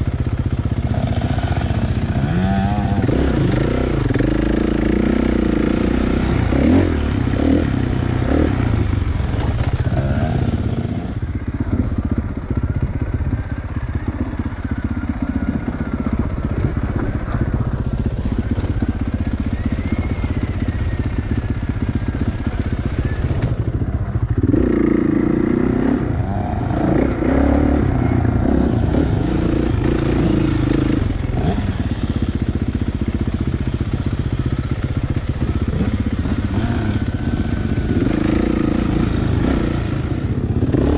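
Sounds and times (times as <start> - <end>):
motorcycle engine revving: 0.0 - 40.9
bike rattling over rough ground: 3.0 - 24.9, 26.7 - 40.9.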